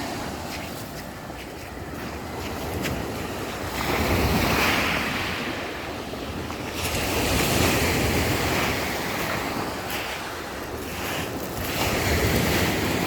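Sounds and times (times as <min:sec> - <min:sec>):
waves breaking on shore: 0:00.0 - 0:13.0
wind buffeting microphone: 0:00.0 - 0:13.0.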